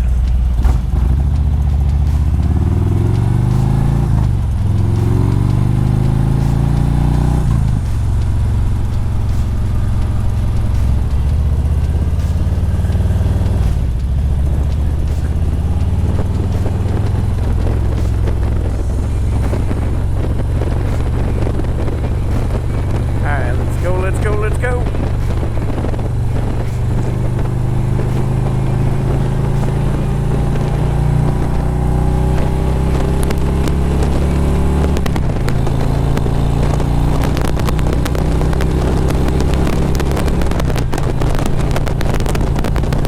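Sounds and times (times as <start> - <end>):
motorcycle accelerating through gears: 0.0 - 43.0
wind rush on microphone: 0.0 - 43.0.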